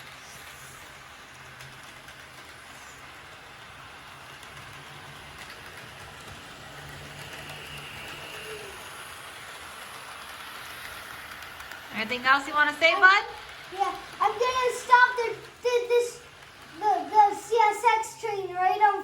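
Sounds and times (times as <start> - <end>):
model train motors whirring: 0.0 - 19.0.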